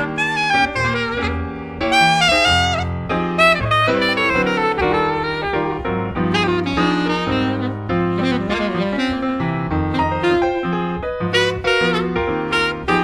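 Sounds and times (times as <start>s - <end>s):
jazz saxophone melody: 0.0s - 13.0s
piano chords and bass notes: 0.0s - 13.0s.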